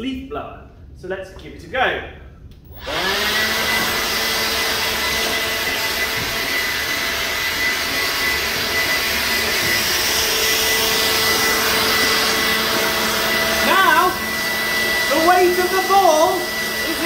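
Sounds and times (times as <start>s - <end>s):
leaf blower running: 2.7s - 17.0s.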